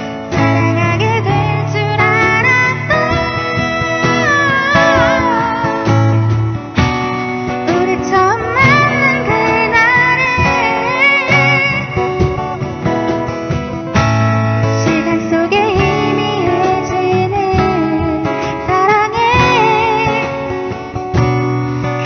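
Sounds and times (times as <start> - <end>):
person singing: 0.0 - 13.3, 14.6 - 22.0
plucked and strummed guitar: 0.0 - 22.0.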